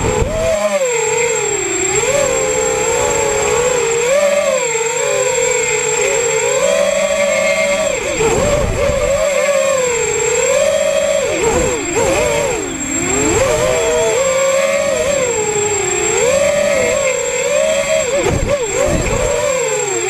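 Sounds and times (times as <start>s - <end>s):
faint high whine: 0.0s - 20.0s
quadcopter motors whining: 0.0s - 20.0s.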